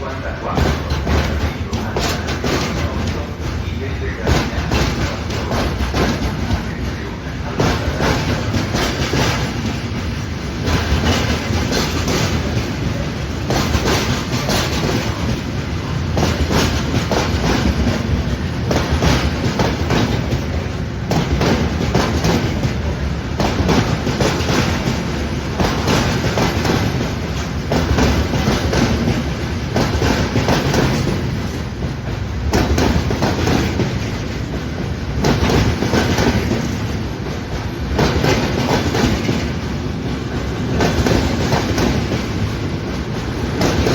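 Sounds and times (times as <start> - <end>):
train rumble: 0.0 - 43.9
train wheels clattering over rail joints: 0.0 - 43.9.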